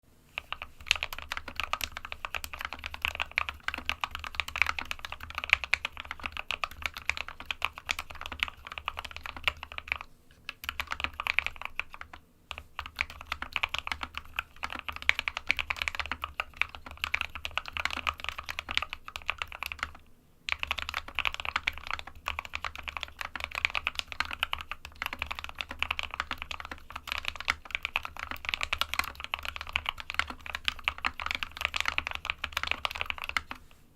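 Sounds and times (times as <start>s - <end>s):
fast keyboard typing: 0.4s - 33.6s.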